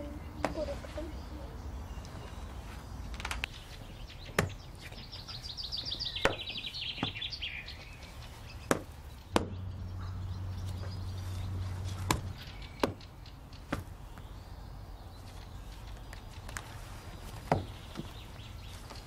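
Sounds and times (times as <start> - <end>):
songbird trill: 0.0 - 19.0.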